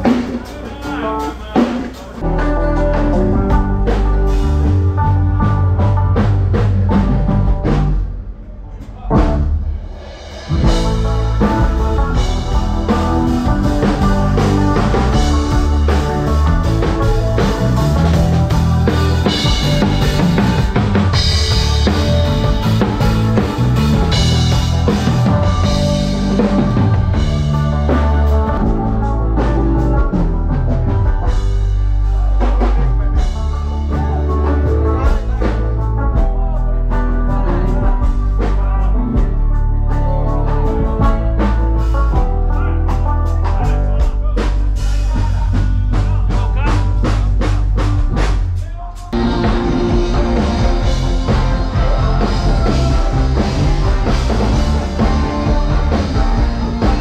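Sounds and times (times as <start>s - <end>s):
band music with drums bass guitar: 0.0s - 57.0s.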